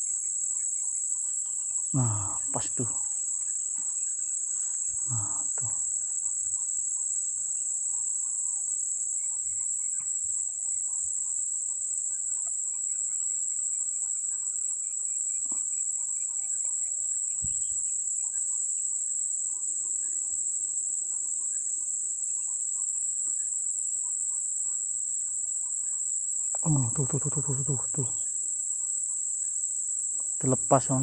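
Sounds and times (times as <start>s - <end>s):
faint bird chirps: 0.0s - 31.0s
high-pitched insect buzzing: 0.0s - 31.0s.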